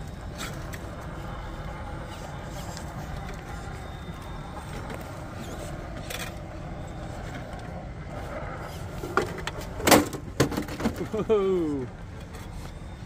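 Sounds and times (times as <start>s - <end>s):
electric motor and drivetrain whirring: 0.0s - 13.0s.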